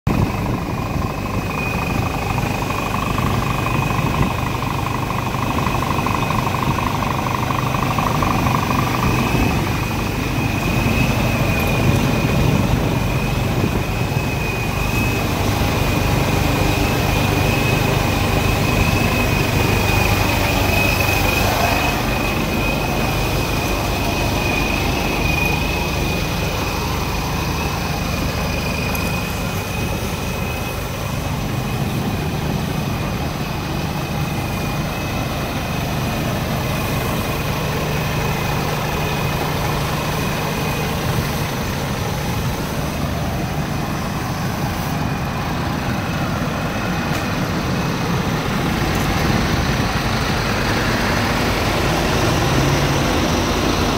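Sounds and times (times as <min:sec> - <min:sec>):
diesel truck engine idling: 0:00.1 - 0:53.9
thin high whine: 0:00.1 - 0:53.9.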